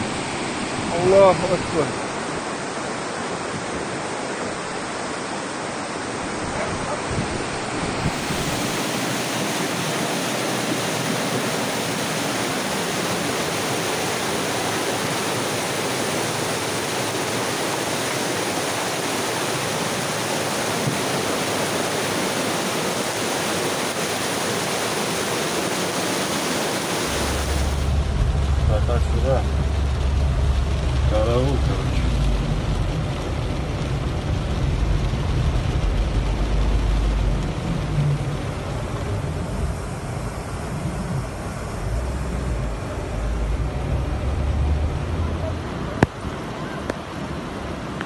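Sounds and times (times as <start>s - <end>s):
floodwater rushing: 0.0s - 48.0s.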